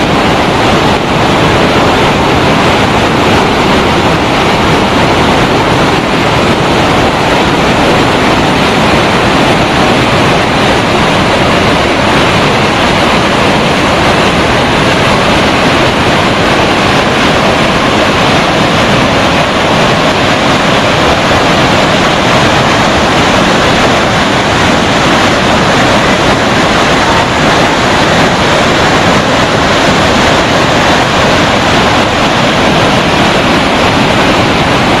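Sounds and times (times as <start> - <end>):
waterfall crashing: 0.0 - 35.0.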